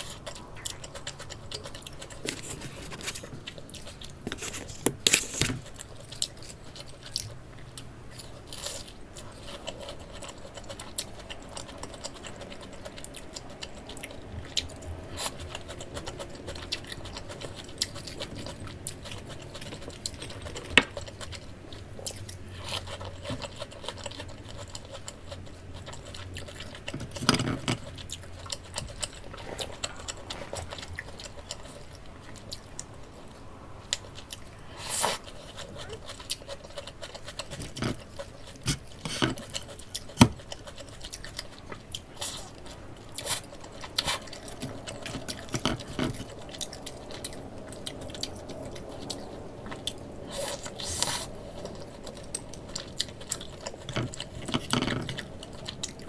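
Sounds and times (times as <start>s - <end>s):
chewing crispy breaded cutlet: 0.0s - 56.0s.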